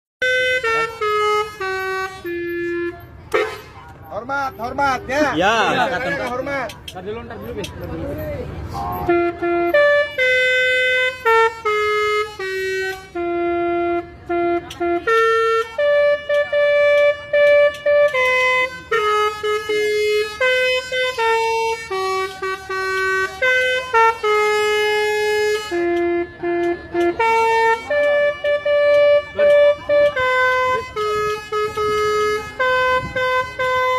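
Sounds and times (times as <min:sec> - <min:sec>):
multi-tone bus horn melody: 0:00.2 - 0:06.7, 0:08.1 - 0:33.9.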